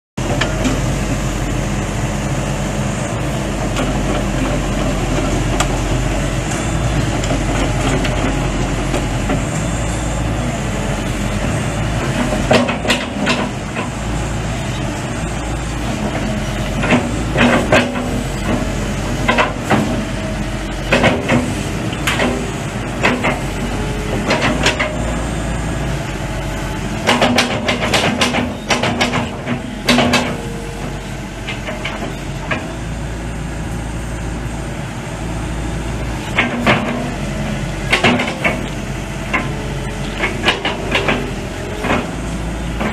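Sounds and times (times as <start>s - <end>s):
excavator diesel engine running: 0.2s - 42.9s.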